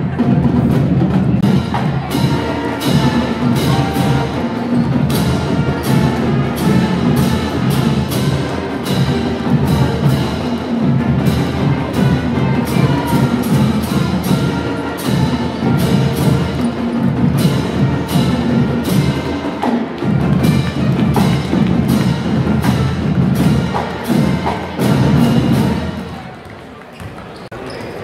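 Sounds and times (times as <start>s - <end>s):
steady drum beat: 0.0s - 26.1s
brass band with sousaphones: 0.0s - 26.2s.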